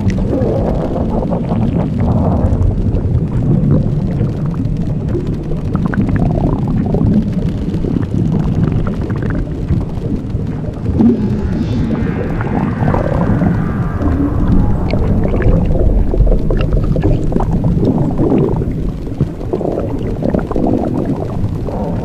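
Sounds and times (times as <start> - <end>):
low rumble with crackles: 0.0 - 22.0.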